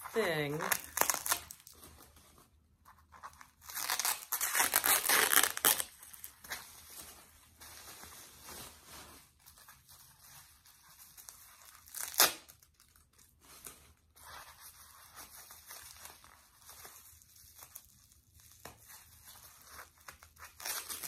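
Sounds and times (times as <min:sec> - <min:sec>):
wrapping ripping: 0:00.0 - 0:02.2, 0:03.2 - 0:21.0
wrapping crinkling: 0:00.0 - 0:21.0.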